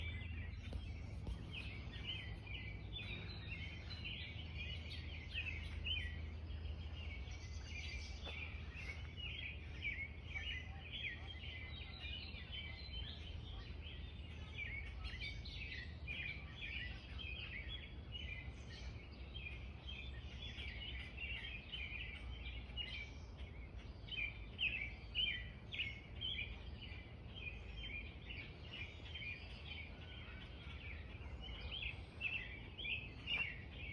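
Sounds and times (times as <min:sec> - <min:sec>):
low background rumble: 0:00.0 - 0:33.9
small birds chirping: 0:00.0 - 0:33.9.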